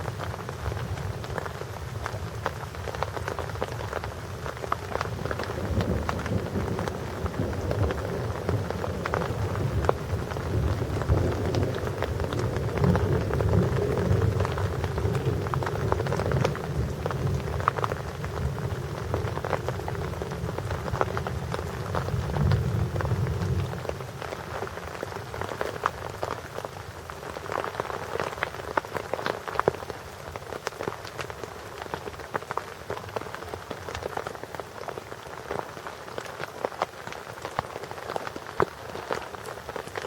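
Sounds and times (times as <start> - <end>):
close raindrop ticks: 0.0 - 40.0
heavy rain: 0.0 - 40.0.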